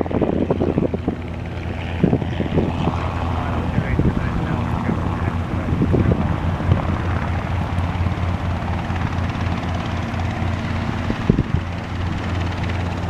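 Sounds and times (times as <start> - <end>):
helicopter drone: 0.0 - 13.0.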